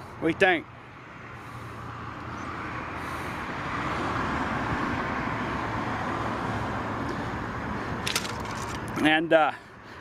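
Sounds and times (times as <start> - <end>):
passing road traffic: 0.0 - 10.0.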